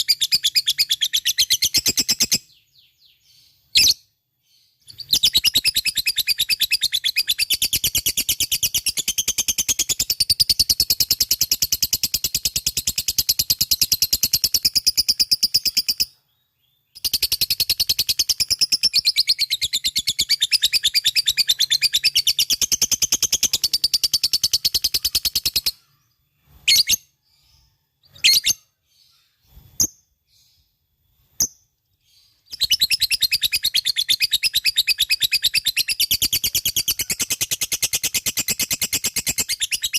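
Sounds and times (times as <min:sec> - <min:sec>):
short bird chirps: 0:00.0 - 0:39.9.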